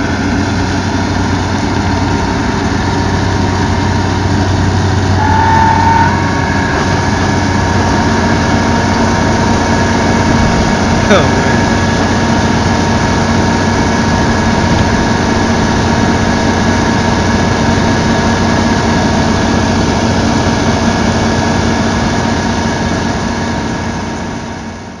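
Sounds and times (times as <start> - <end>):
combine harvester engine running: 0.0 - 25.0
mechanical whine: 0.0 - 25.0.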